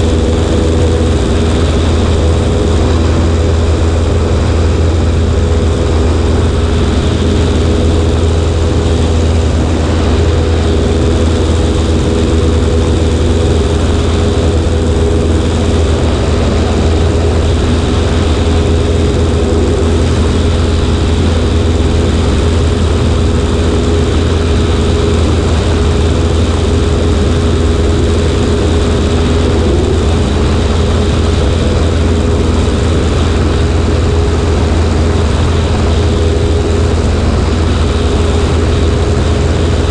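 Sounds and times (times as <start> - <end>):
rush of air: 0.0 - 39.9
small plane engine and propeller: 0.0 - 39.9.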